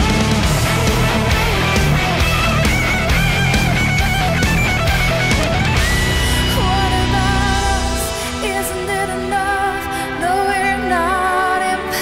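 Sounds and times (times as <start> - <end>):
rock music with guitar and beat: 0.0 - 12.0.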